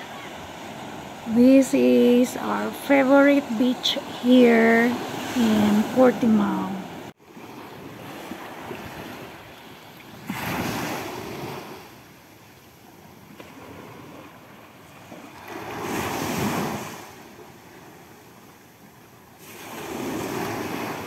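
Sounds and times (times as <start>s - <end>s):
waves breaking on sandy beach: 0.0s - 21.0s.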